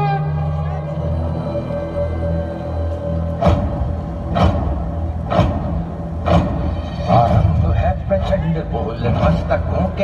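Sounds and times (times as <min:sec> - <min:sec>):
low pulsing bass: 0:00.0 - 0:10.0.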